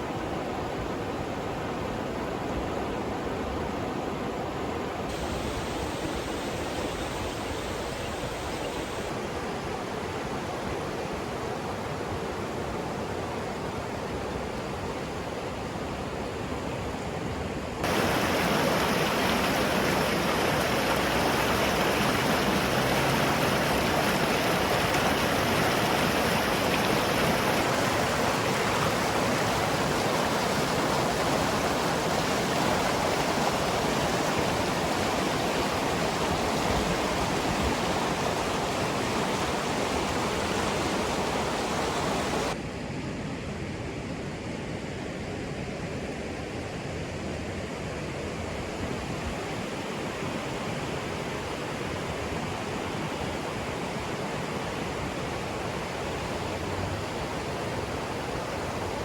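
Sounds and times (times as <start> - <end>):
river rushing over rapids: 0.2 - 15.7, 17.8 - 42.6, 48.8 - 59.0.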